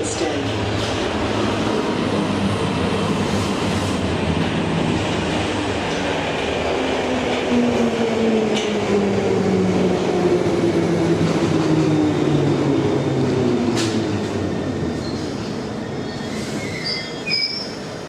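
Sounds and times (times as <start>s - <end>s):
train rumbling and braking: 0.0s - 18.0s.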